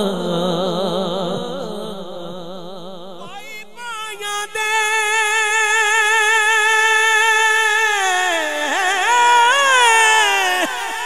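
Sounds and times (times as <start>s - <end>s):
man singing with vibrato: 0.0s - 11.0s.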